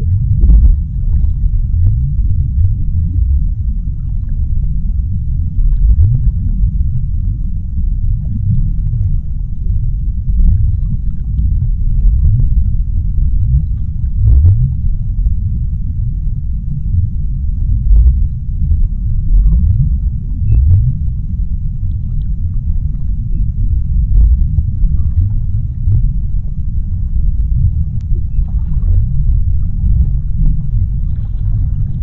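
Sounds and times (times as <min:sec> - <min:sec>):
deep underwater rumble: 0:00.0 - 0:32.0.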